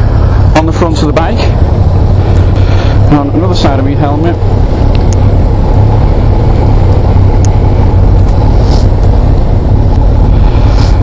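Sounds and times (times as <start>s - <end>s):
motorcycle engine drone: 0.0s - 11.0s
wind noise: 0.0s - 11.0s.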